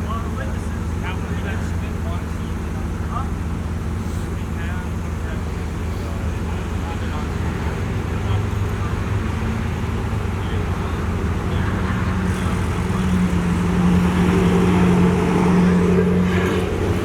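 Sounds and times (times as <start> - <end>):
car engine: 0.0 - 17.0
road noise: 0.0 - 17.0.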